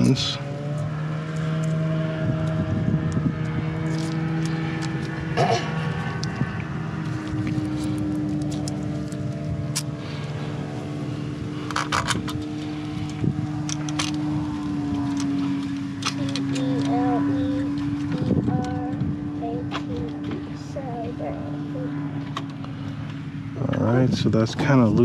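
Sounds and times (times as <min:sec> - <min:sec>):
motor hum: 0:00.0 - 0:25.0.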